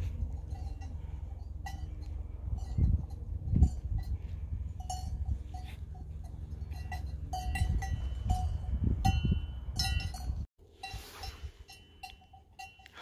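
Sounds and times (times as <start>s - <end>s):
heavy low rumble: 0.0s - 10.5s
sheep bells clinking: 0.0s - 13.0s.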